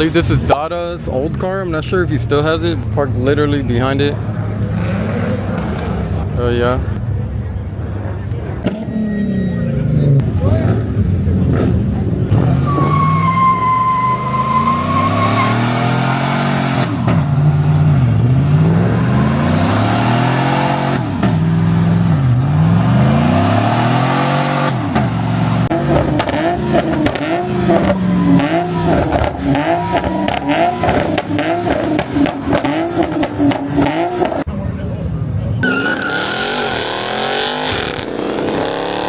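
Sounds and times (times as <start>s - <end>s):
car engine revving: 1.9s - 7.4s, 8.2s - 34.5s, 35.6s - 39.0s.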